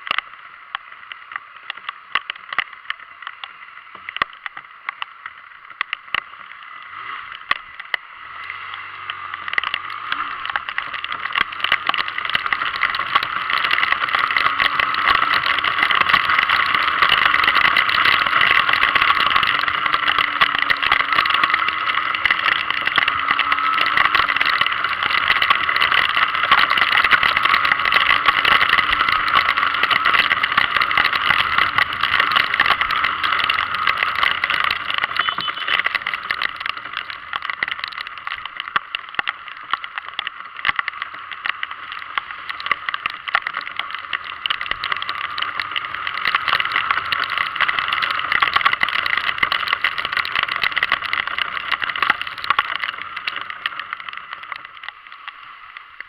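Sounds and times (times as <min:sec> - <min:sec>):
wind and rain on microphone: 0:00.0 - 0:56.0.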